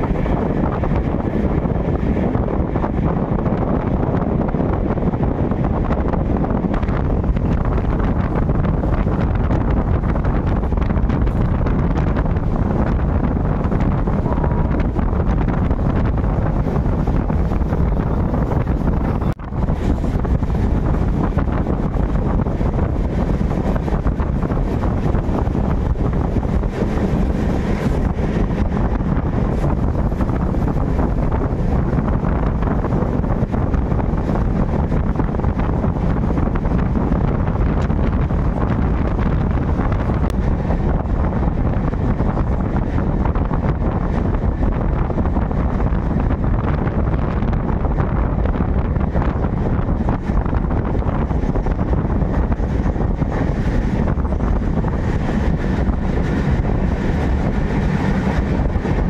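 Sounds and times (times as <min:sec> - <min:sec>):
train wheels rumbling: 0:00.0 - 0:59.0
wind over microphone: 0:00.0 - 0:59.0.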